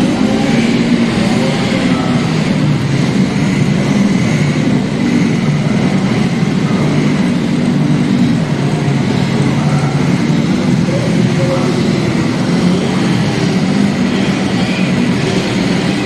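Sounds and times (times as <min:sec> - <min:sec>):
scooter engines running: 0:00.0 - 0:16.0.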